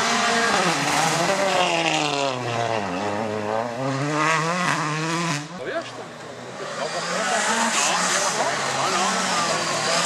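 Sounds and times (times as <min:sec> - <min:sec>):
rally car engine accelerating: 0:00.0 - 0:10.0.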